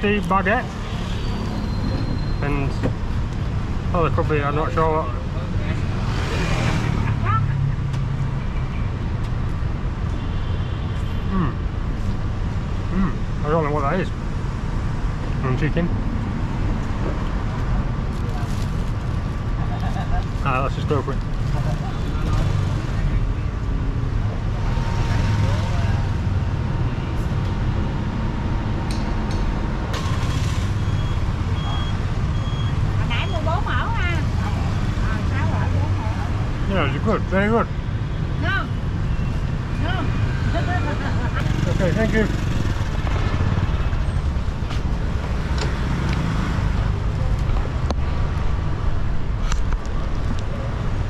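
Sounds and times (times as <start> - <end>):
traffic engines rumbling: 0.0 - 51.0.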